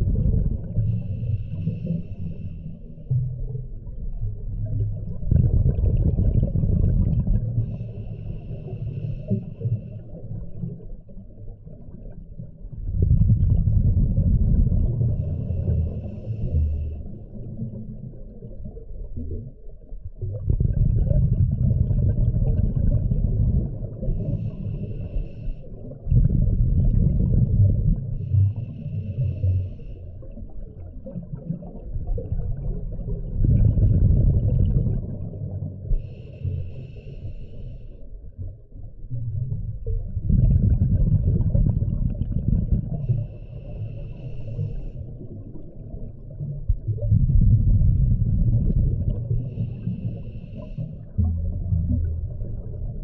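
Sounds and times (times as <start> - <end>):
low bubbling exhaust bubbles: 0.0 - 36.3, 38.1 - 53.0.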